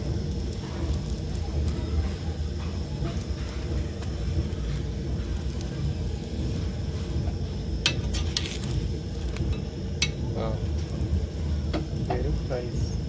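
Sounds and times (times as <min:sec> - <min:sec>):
flatbread sizzling in oil: 0:00.0 - 0:13.0.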